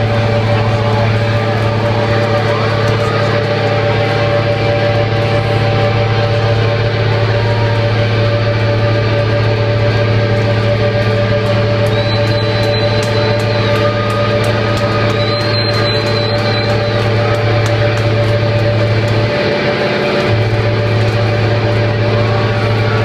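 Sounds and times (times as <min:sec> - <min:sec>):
rock band droning chord: 0:00.0 - 0:23.0.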